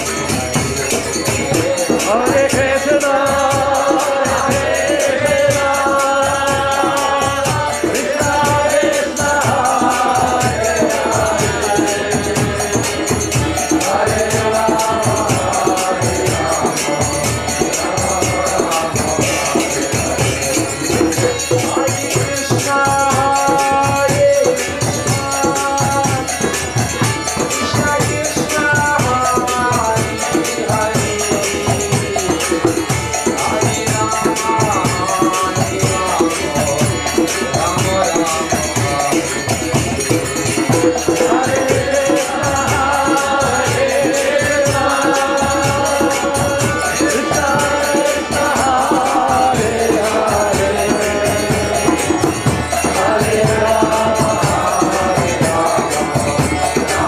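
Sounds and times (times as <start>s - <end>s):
group singing a chant: 0.0s - 57.0s
jingling hand cymbals: 0.0s - 57.0s
percussion beat: 0.0s - 57.0s.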